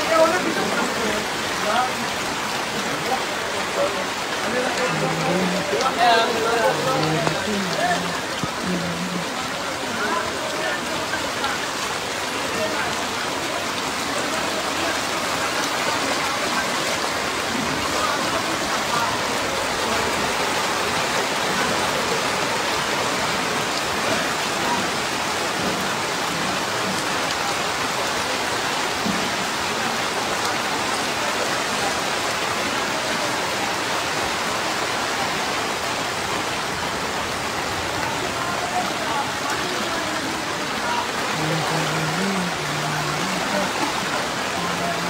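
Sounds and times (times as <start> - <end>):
rain falling on water: 0.0 - 45.0.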